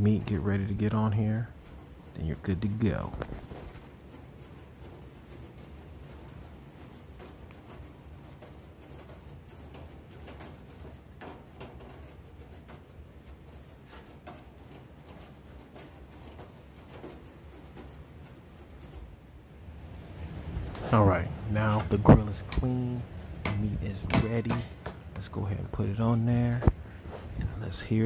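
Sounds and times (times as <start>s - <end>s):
grill brush scrubbing metal grates: 0.0s - 28.0s.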